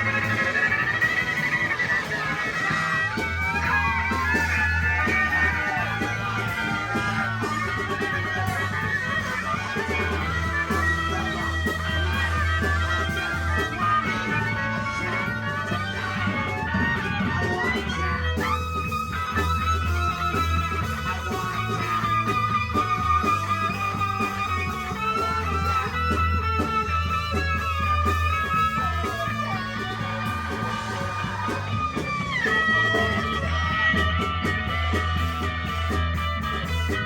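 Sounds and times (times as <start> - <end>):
guitar bending high notes: 0.0 - 37.0
pulsing bass line: 0.0 - 37.0
rock band playing live: 0.0 - 37.0.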